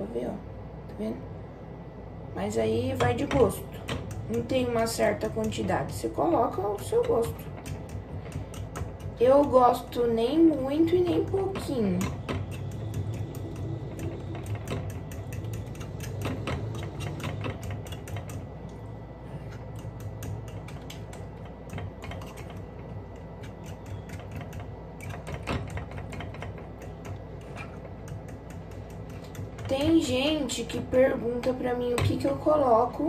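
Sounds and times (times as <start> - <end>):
fork beating eggs in bowl: 3.0 - 32.9.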